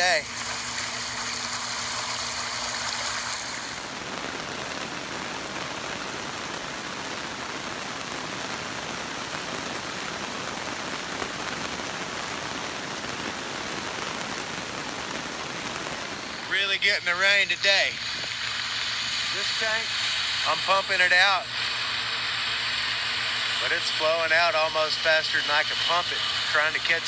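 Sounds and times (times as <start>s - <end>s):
heavy rain hissing on ground: 0.0s - 27.0s.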